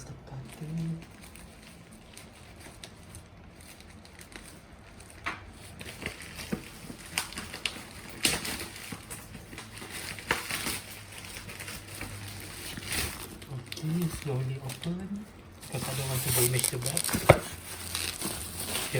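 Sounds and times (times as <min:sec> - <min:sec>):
packaging crackling and rustling: 0:00.3 - 0:18.9.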